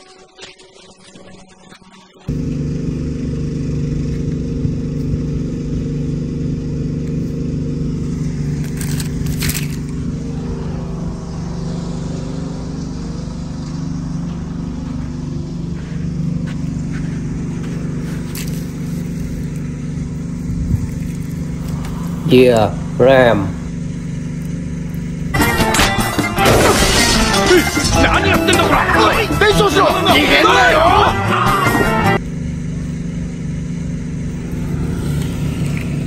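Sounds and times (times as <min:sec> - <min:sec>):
diesel engine running: 0:02.2 - 0:36.0.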